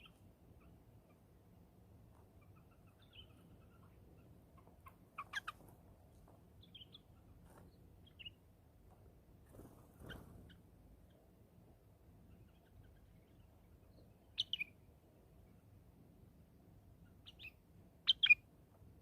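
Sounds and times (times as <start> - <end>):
birds calling faintly: 0.0 - 19.0.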